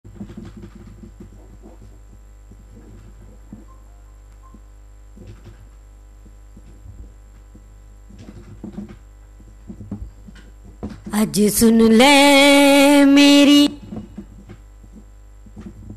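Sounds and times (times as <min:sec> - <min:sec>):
low mains hum: 0:00.0 - 0:15.9.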